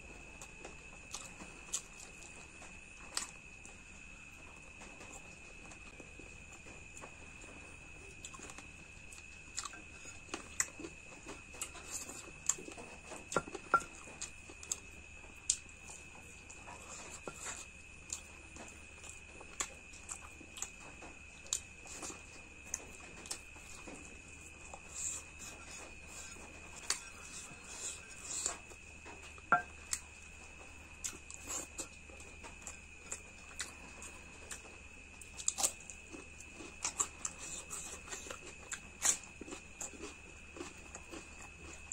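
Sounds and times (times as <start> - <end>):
wet chewing and smacking: 0.4 - 41.9.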